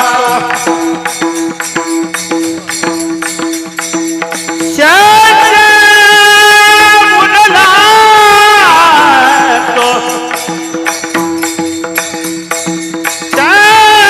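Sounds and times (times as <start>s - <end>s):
clicking hand percussion: 0.0s - 6.8s, 8.4s - 14.0s.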